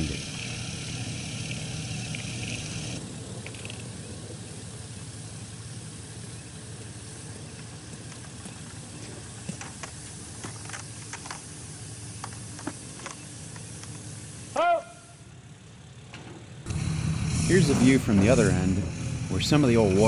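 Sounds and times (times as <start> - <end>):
hiss: 0.0 - 15.2, 16.7 - 20.0
low machine hum: 0.0 - 20.0.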